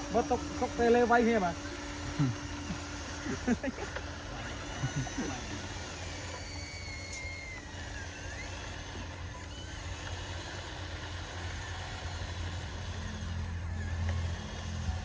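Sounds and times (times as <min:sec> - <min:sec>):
small rc truck motors whining: 0:00.0 - 0:15.0
steady low hum: 0:00.0 - 0:15.0.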